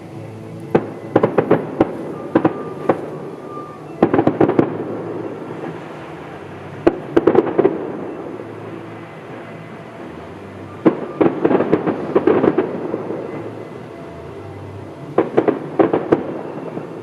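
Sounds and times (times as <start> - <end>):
fireworks bangs: 0.7 - 13.6, 15.0 - 17.0.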